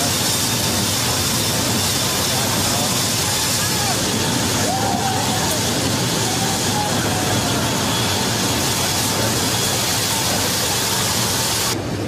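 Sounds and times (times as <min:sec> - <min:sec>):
jet engine noise: 0:00.0 - 0:12.0
roar of wind: 0:00.0 - 0:12.0.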